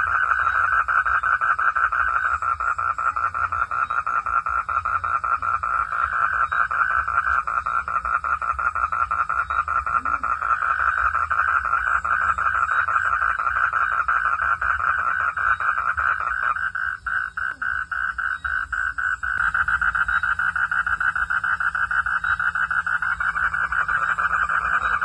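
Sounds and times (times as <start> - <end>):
frogs calling: 0.0 - 25.0.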